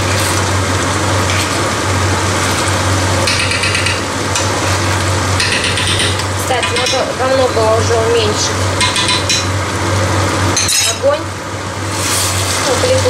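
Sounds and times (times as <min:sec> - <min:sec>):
stew sizzling in frying pan: 0:00.0 - 0:13.0.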